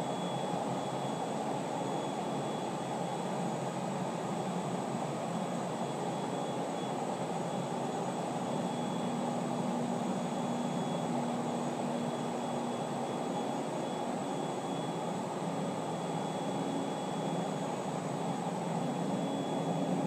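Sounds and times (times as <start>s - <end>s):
faint high whine: 0.0s - 3.8s, 5.4s - 20.0s.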